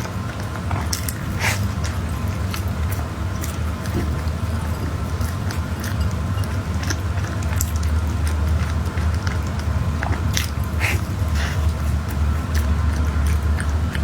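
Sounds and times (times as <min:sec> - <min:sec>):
wet chewing mouth clicks: 0:00.0 - 0:14.0.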